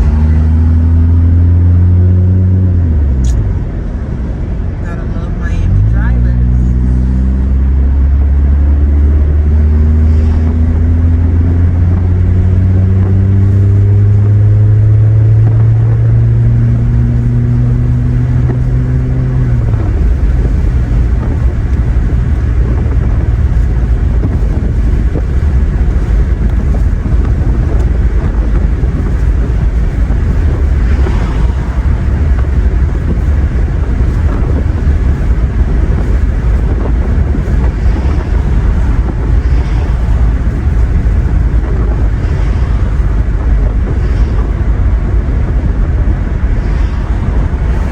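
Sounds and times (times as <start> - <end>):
loud engine drone: 0.0 - 47.9
low exhaust rumble: 0.0 - 47.9
road noise: 0.0 - 47.9.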